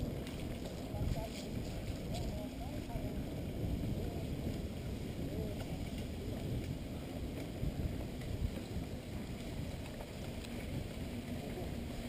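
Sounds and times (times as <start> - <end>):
bike tyres rolling on dirt: 0.0 - 12.0
wind buffeting microphone: 0.0 - 12.0.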